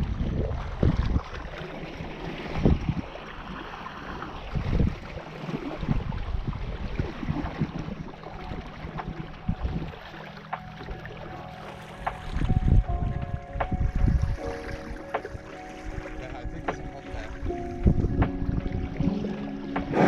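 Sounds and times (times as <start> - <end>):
water lapping against hull: 0.0 - 20.0
wind buffeting microphone: 0.0 - 20.0.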